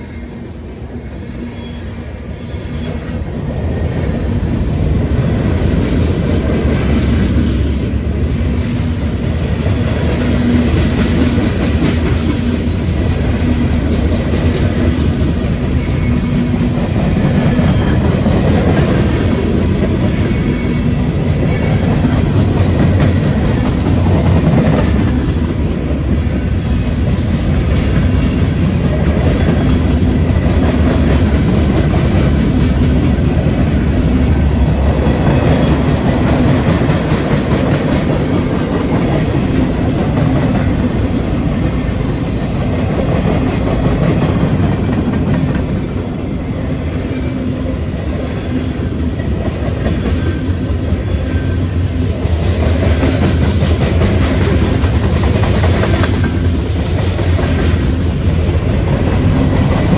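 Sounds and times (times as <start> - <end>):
freight train wheels clicking on rails: 0.0 - 59.9.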